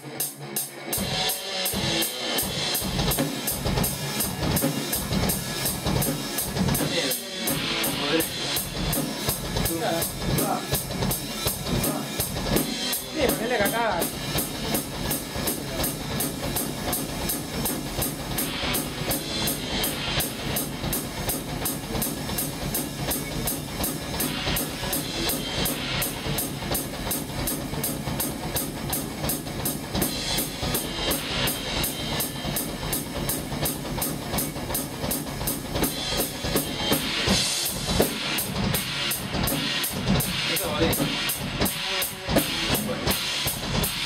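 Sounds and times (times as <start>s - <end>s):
cymbal crashes: 0.0s - 44.0s
fast metal drum beat: 0.0s - 44.0s.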